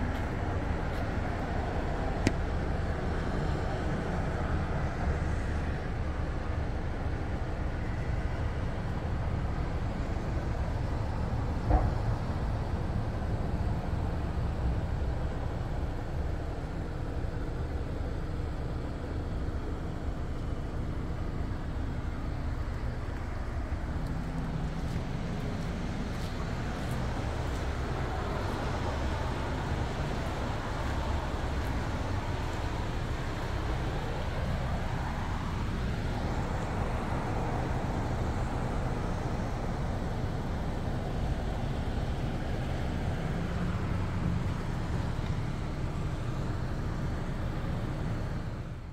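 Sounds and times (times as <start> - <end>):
cars driving past: 0.0 - 48.9.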